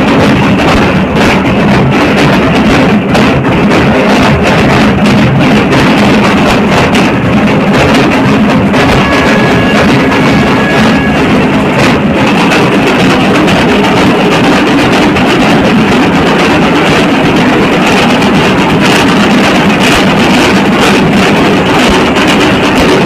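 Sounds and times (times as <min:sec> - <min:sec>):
group drumming: 0:00.0 - 0:23.0.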